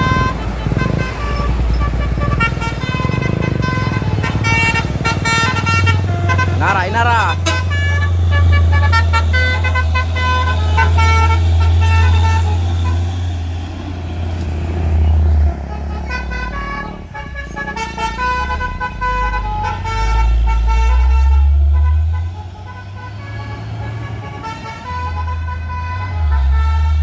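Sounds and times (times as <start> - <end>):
vehicle horn notes: 0.0 - 13.1, 15.0 - 27.0
heavy vehicles rumbling: 0.0 - 27.0.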